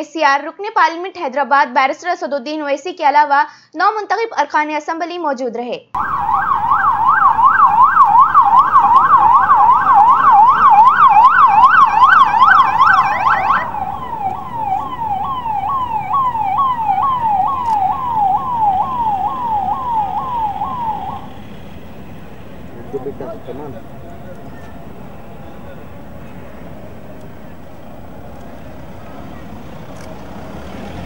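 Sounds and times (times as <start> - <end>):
police siren wailing: 6.0 - 31.0.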